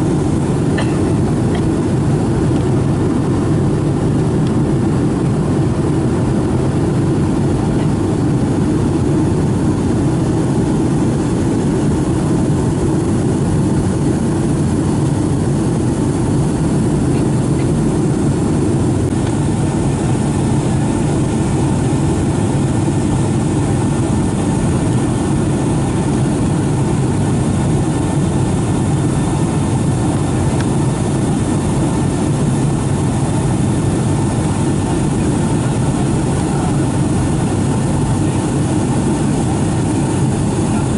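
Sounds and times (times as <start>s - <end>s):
jet engines humming: 0.0s - 40.9s.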